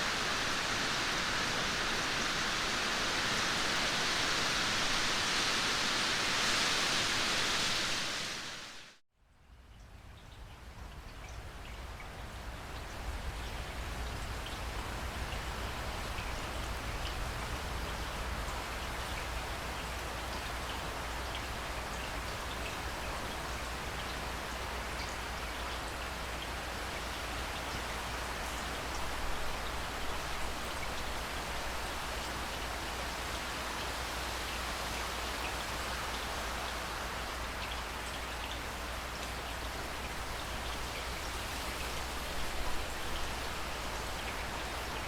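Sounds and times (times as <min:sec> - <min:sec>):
steady rain hiss: 0:00.0 - 0:09.0, 0:09.9 - 0:45.0.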